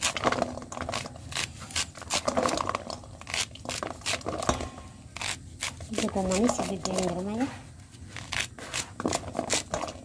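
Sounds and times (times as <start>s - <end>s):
knife cutting corn kernels: 0.0s - 10.0s.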